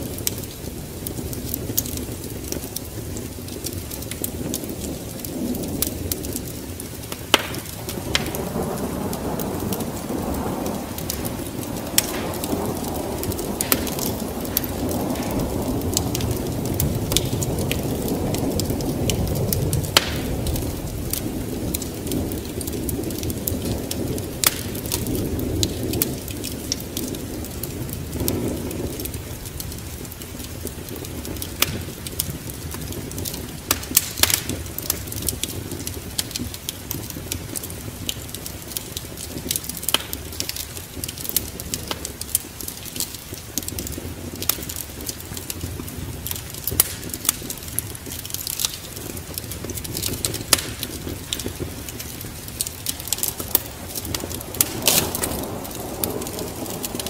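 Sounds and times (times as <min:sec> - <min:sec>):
fire pops: 0:00.0 - 0:57.0
wood fire crackling: 0:00.0 - 0:57.0.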